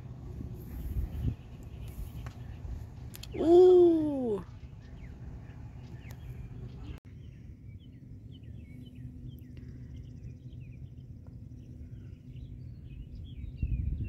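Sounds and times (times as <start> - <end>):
birds chirping: 0.0 - 14.0
wind rumble on microphone: 0.0 - 14.0.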